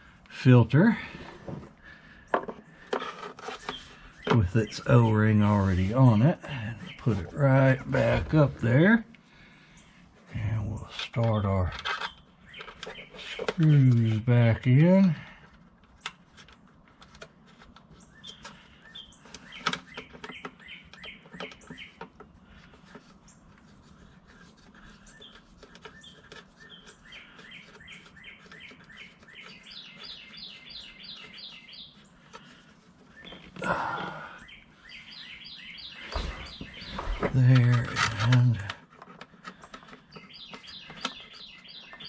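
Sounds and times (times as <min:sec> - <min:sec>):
songbird chirping: 0:00.0 - 0:42.0.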